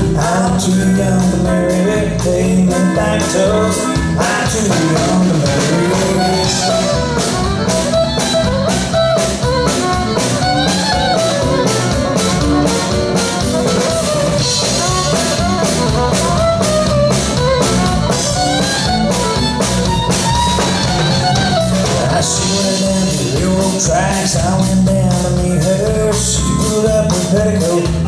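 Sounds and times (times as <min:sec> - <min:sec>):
drum kit beat: 0:00.0 - 0:28.0
guitar melody: 0:00.0 - 0:28.0.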